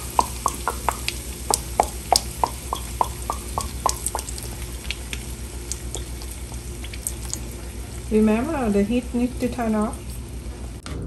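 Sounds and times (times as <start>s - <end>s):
oil popping in frying pan: 0.0s - 10.4s
steady low hum: 0.0s - 11.0s.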